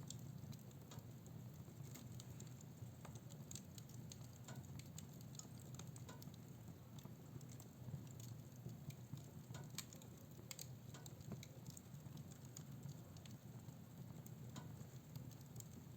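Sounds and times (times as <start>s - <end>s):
fireplace fire crackling: 0.0s - 15.9s.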